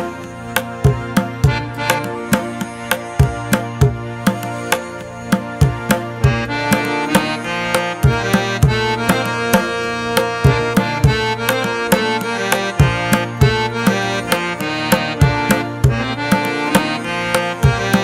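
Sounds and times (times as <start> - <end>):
hand drum rhythm: 0.0 - 18.0
held melody notes: 0.0 - 18.0.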